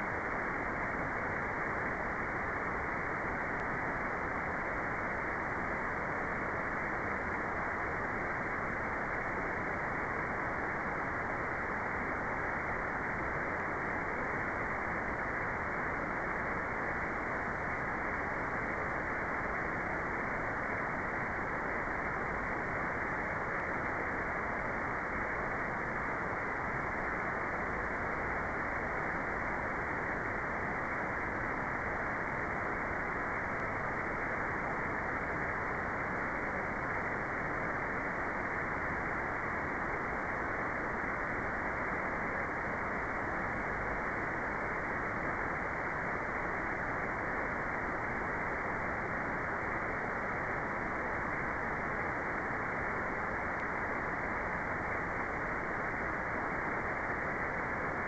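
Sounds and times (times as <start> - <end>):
dull white noise rush: 0.0 - 58.0.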